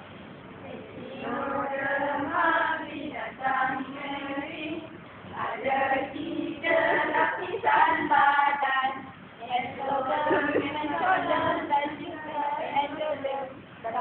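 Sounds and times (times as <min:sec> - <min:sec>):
women singing together: 0:00.6 - 0:14.0.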